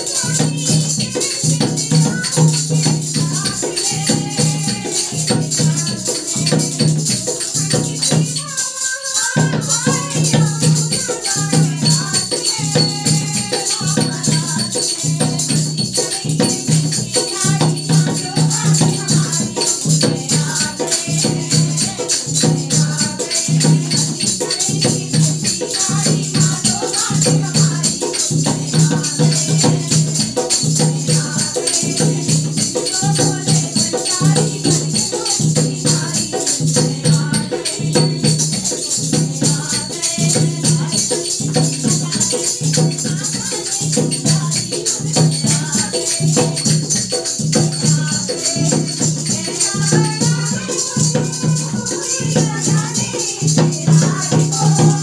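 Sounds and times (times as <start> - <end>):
hand drum beating: 0.0 - 55.0
small hand cymbals jingling: 0.0 - 55.0
women's group singing in unison: 0.0 - 55.0.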